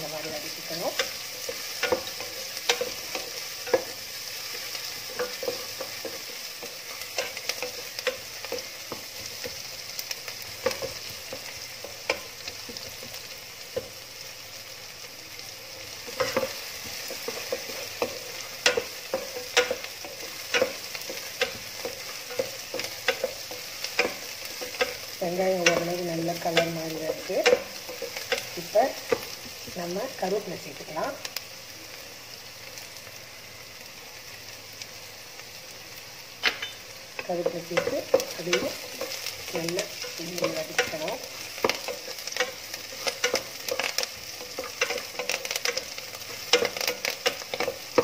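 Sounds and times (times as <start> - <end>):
onions sizzling in oil: 0.0 - 48.0.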